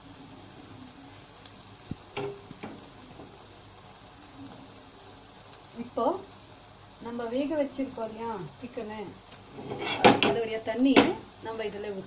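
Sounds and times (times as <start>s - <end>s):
gravy sizzling in a pan: 0.0s - 12.0s.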